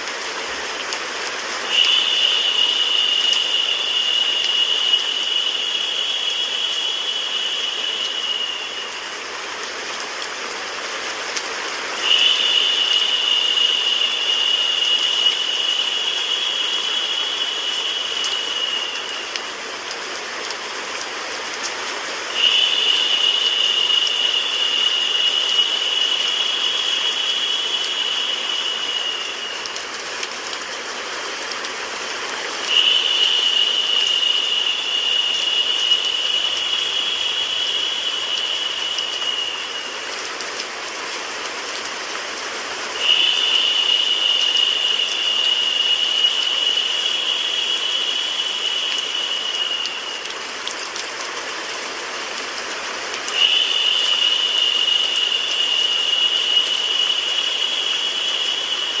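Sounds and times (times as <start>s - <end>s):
high narrow hiss: 0.0s - 59.0s
steady rain: 0.0s - 59.0s
white noise: 0.0s - 59.0s.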